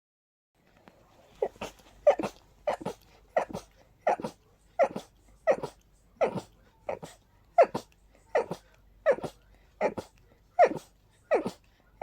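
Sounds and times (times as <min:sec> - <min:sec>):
person sneezing rapidly: 0:01.4 - 0:11.6.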